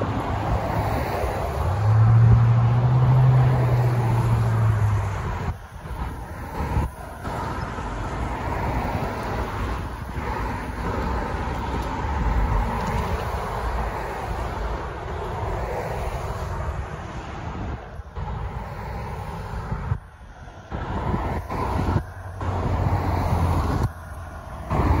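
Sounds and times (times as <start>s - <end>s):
cars driving over railroad crossing: 0.0s - 25.0s.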